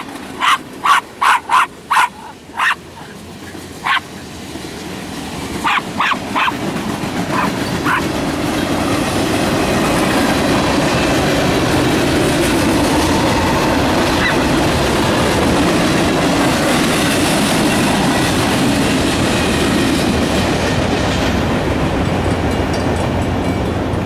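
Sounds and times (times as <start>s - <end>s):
freight train rumbling past: 0.0s - 24.0s
steel wheels clacking on rail joints: 0.0s - 24.0s.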